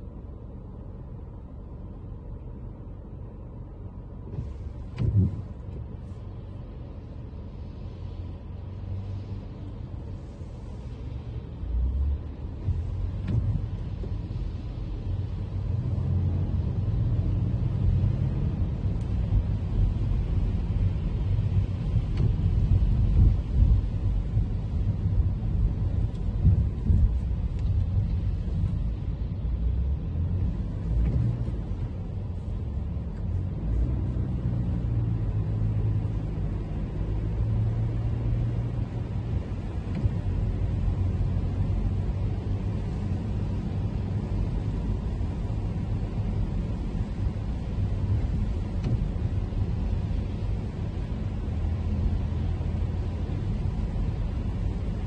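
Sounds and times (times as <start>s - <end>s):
car driving low rumble: 0.0s - 55.0s
tyres hissing on wet road: 4.2s - 55.0s.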